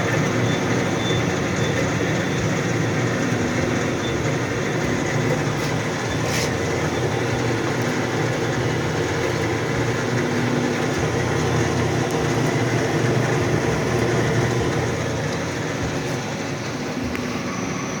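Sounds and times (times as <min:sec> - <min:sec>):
bandsaw running: 0:00.0 - 0:17.4.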